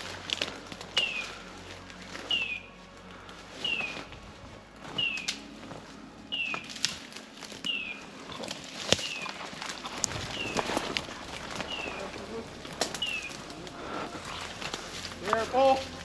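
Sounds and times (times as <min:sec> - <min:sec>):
twigs crackling underfoot: 0:00.0 - 0:16.0.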